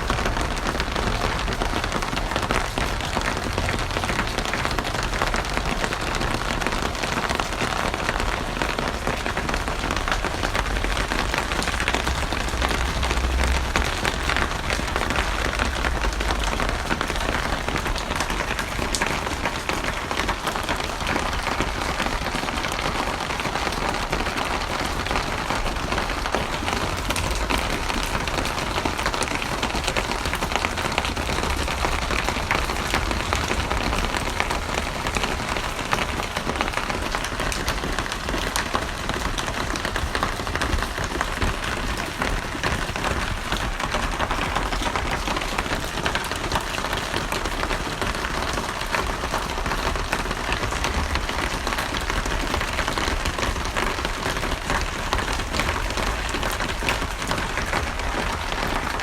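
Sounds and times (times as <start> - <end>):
steady rain pattering: 0.0 - 59.0.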